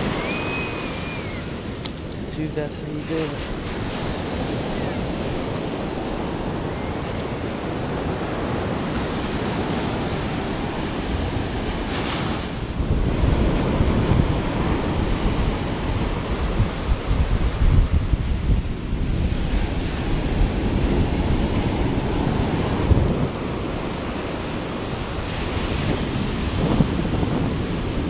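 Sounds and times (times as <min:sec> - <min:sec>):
ocean surf on beach: 0:00.0 - 0:28.0
wind buffeting microphone: 0:00.0 - 0:28.0.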